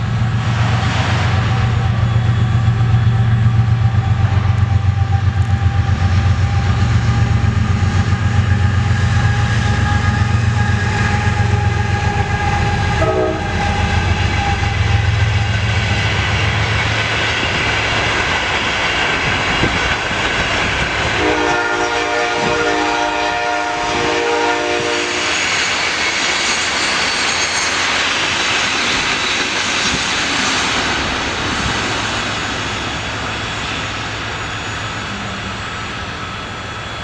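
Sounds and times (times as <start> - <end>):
ringing wheels on rails: 0.0 - 21.2, 24.6 - 37.0
diesel locomotive engine rumble: 0.0 - 37.0.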